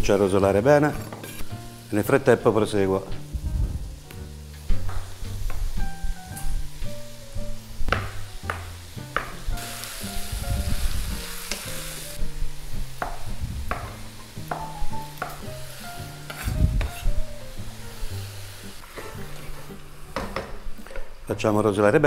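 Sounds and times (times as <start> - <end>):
tripe sizzling in oil: 1.0 - 20.8.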